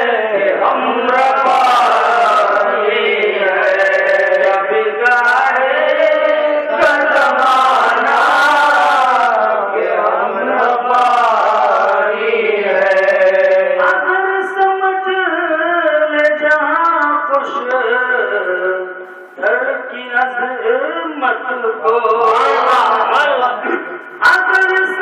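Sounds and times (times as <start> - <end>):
man chanting melodically: 0.0 - 25.0.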